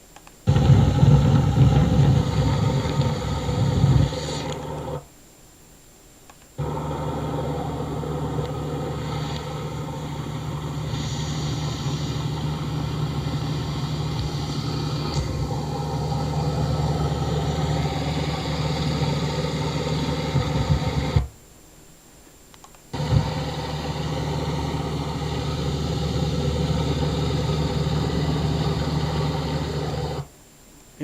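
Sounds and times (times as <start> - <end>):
heat pump compressor and fan hum: 0.0 - 5.0, 6.6 - 21.4, 22.9 - 30.5.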